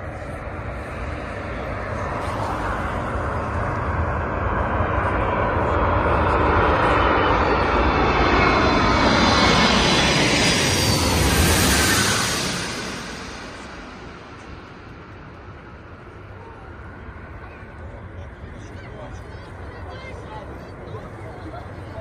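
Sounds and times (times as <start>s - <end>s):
jet engine whine: 0.0s - 22.0s
jet engines rumbling overhead: 0.0s - 22.0s.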